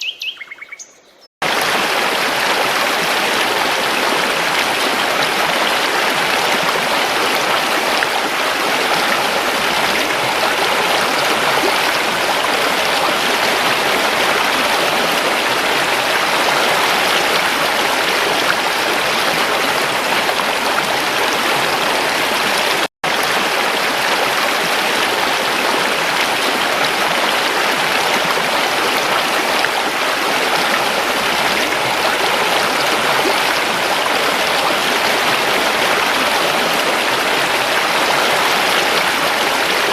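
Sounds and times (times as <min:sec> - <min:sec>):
creek water splashing over rocks: 0:01.4 - 0:39.9.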